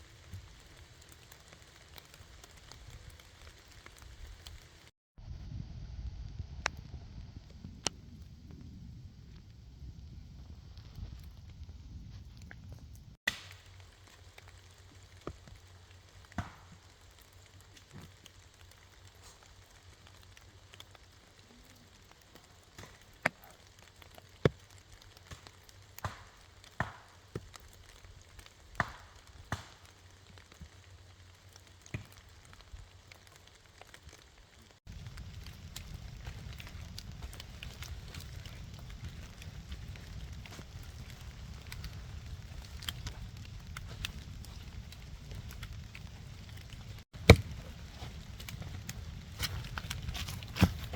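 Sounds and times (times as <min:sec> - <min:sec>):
campfire crackling: 0:00.0 - 0:50.9
fire low rumble: 0:00.0 - 0:50.9.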